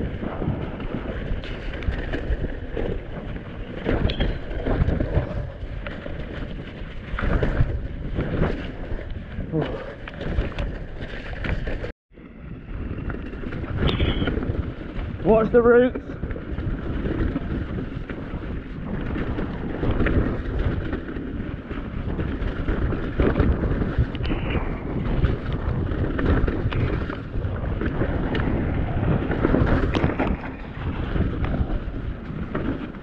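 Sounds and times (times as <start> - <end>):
bike rattling over bumps: 0.0 - 33.0
wind buffeting microphone: 0.0 - 33.0.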